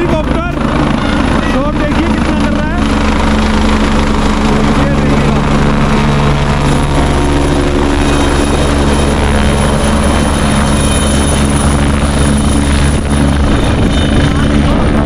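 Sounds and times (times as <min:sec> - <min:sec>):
helicopter rotor beat: 0:00.0 - 0:15.0
high turbine whine: 0:00.0 - 0:15.0.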